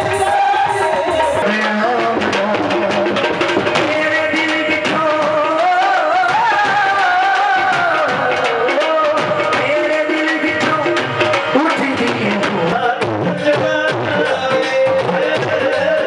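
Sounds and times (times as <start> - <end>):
harmonium: 0.0 - 16.0
man singing: 0.0 - 16.0
tabla and dhol beat: 0.0 - 16.0.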